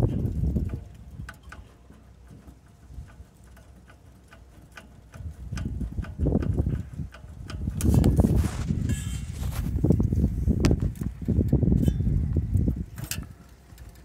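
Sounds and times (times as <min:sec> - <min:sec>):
metallic clicks of throttle linkage: 0:00.0 - 0:14.0.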